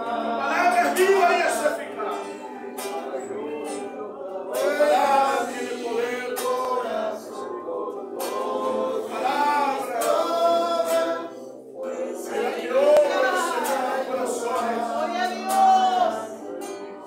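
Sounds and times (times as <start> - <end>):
congregation singing worship song: 0.0 - 17.0.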